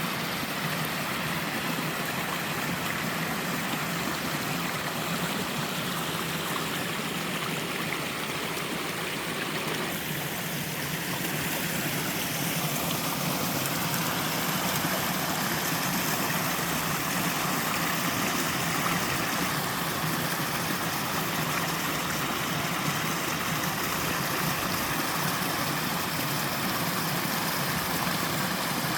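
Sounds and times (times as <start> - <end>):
waterfall rushing and splashing: 0.0 - 28.9.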